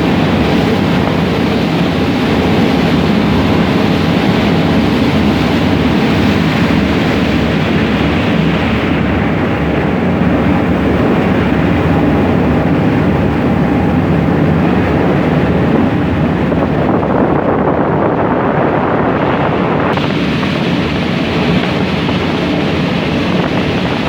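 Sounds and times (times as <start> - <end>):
ferry engines rumbling: 0.0 - 24.0
rushing wind and water: 0.0 - 24.0.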